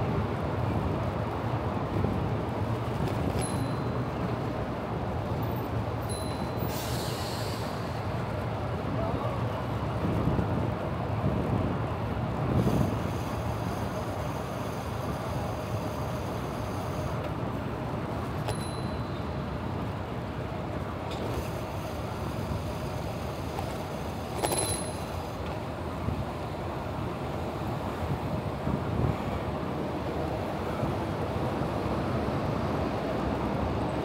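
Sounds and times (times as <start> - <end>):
city traffic noise: 0.0 - 34.0.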